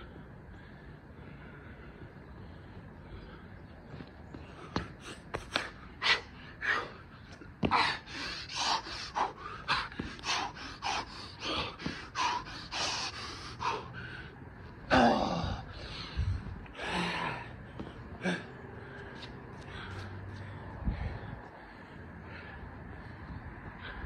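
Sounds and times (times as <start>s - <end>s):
man breathing heavily: 0.0s - 24.0s.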